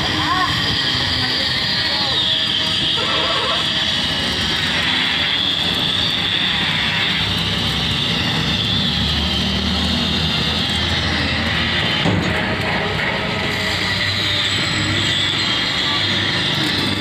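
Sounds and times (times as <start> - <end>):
hiss: 0.0 - 17.0
steady mechanical rumble: 0.0 - 17.0.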